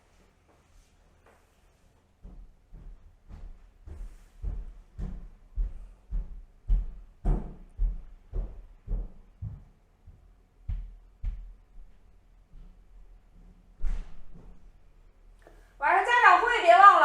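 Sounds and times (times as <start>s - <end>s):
footsteps going up stairs: 0.5s - 15.7s.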